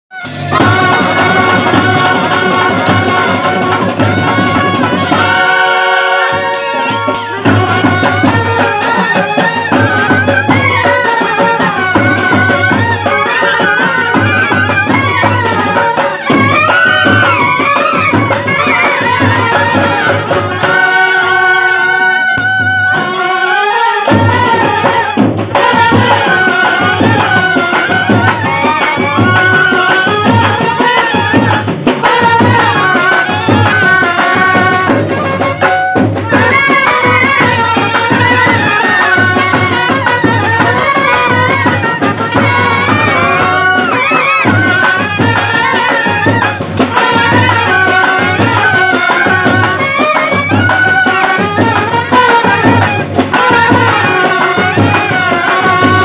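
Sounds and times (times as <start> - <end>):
bass and snare drums beating: 0.1 - 56.0
brass horns playing tune: 0.1 - 56.0.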